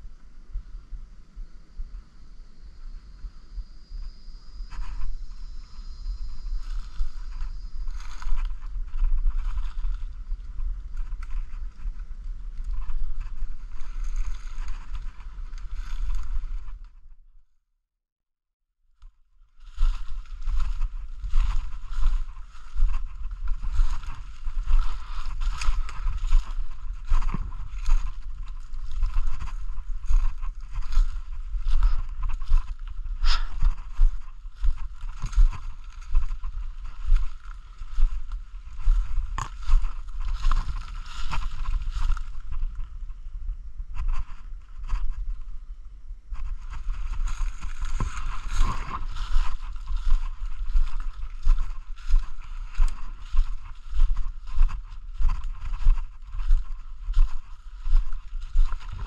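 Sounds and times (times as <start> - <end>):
low microphone rumble: 0.0 - 16.9, 19.5 - 59.0
brushing past undergrowth: 4.6 - 16.8, 19.5 - 42.9, 46.3 - 59.0
footsteps crunching dry leaves: 4.7 - 16.8, 19.5 - 42.9, 46.4 - 59.0.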